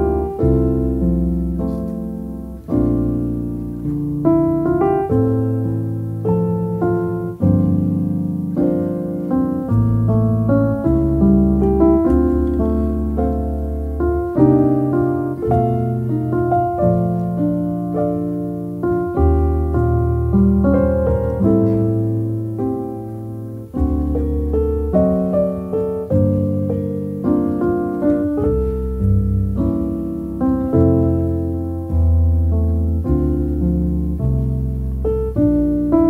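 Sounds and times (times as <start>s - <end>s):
calm piano piece: 0.0s - 36.0s.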